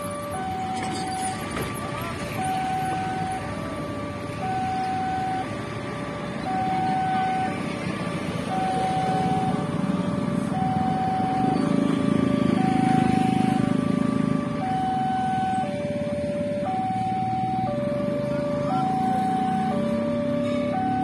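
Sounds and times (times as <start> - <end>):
level crossing two-tone alarm: 0.0 - 7.7, 8.3 - 9.9, 10.5 - 21.0
road traffic hum: 0.0 - 21.0
deep engine drone: 2.0 - 21.0.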